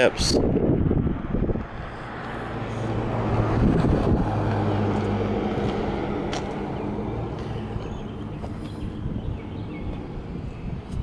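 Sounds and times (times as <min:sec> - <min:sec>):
vehicle engine running: 0:01.8 - 0:10.8.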